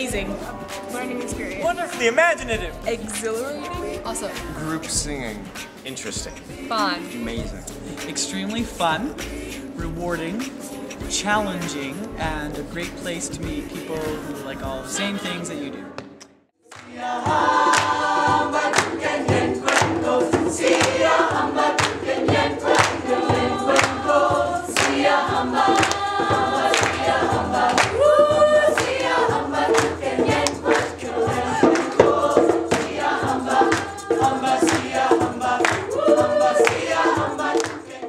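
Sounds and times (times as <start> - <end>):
rhythmic hand claps: 0.0 - 14.8, 16.1 - 38.0
choir singing in parts: 0.0 - 15.9, 16.7 - 38.0.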